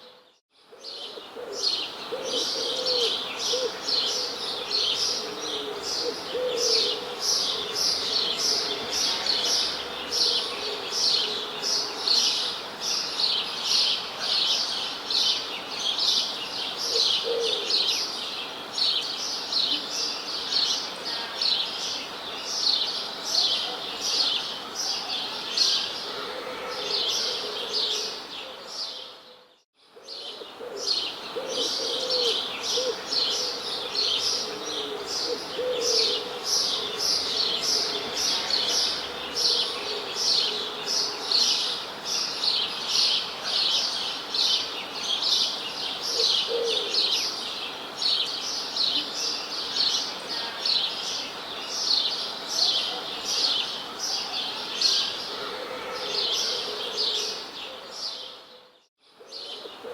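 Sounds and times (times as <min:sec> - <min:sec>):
birds chirping chorus: 0:00.0 - 0:59.9.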